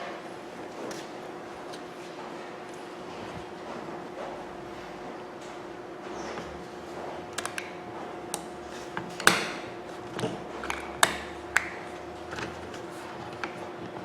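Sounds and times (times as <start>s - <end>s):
steady low hum: 0.3s - 14.0s.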